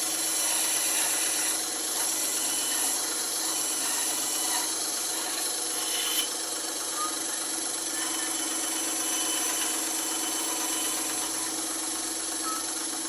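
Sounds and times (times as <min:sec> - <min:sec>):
bandsaw running: 0:00.0 - 0:13.0.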